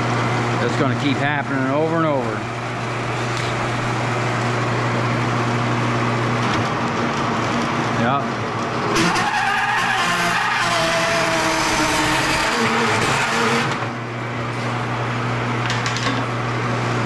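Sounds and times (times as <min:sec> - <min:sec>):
cable feeding rough noise: 0:00.0 - 0:16.2
wire-stripping machine humming: 0:00.0 - 0:17.0.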